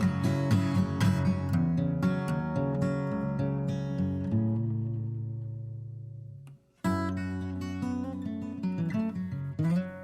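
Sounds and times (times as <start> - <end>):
acoustic guitar chords and notes: 0.0 - 10.0.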